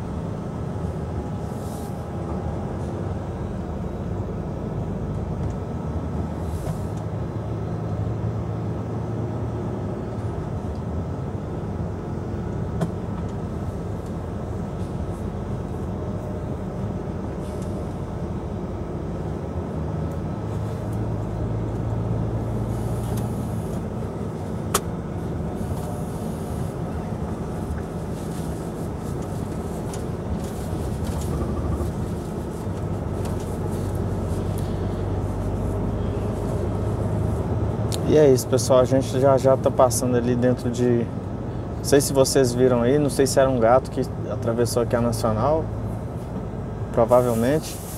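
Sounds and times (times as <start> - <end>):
truck engine and tyre drone: 0.0 - 47.9.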